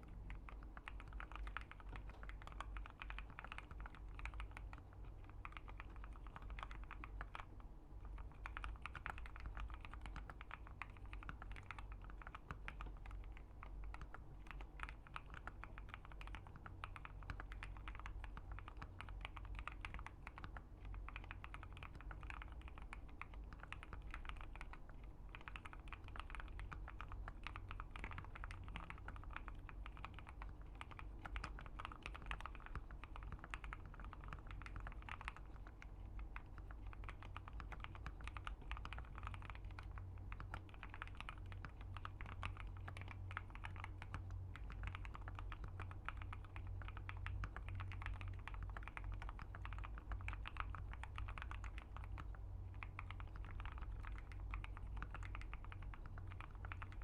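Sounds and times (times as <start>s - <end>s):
mechanical keyboard typing: 0.0s - 57.0s.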